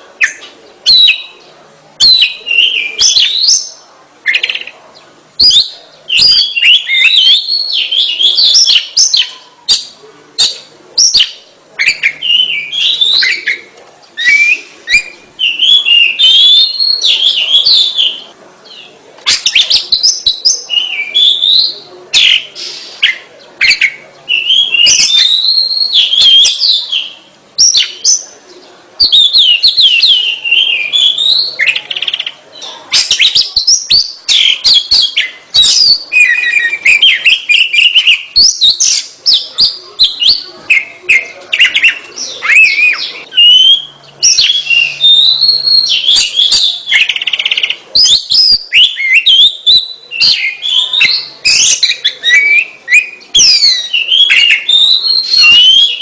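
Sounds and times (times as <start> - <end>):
bird singing whistles and trills: 0.2 - 1.4, 2.0 - 4.7, 5.4 - 28.3, 29.0 - 56.0.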